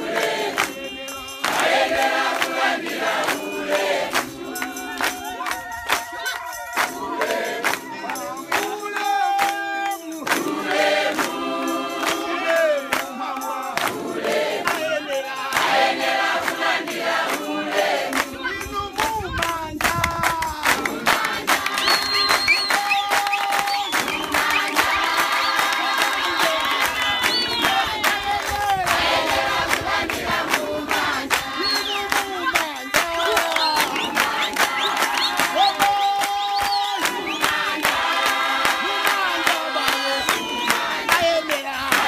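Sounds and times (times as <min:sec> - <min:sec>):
congregation singing a hymn: 0:00.0 - 0:19.3, 0:20.5 - 0:42.0
hand clapping: 0:00.0 - 0:42.0.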